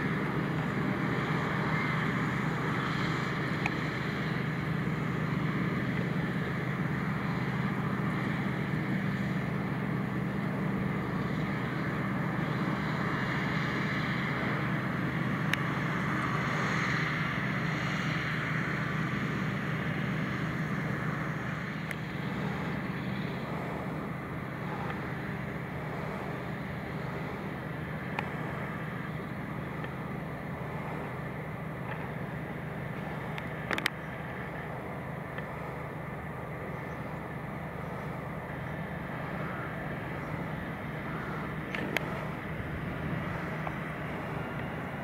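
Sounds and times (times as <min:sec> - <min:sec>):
forage harvester droning: 0:00.0 - 0:45.0
tractor engine: 0:00.0 - 0:45.0.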